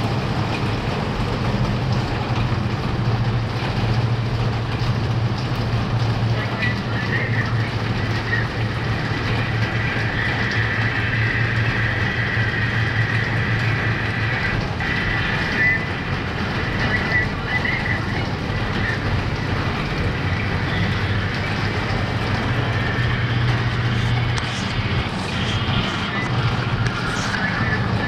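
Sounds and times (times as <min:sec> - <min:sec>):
heavy rain pouring: 0:00.0 - 0:28.0
steady low hum: 0:00.0 - 0:28.0.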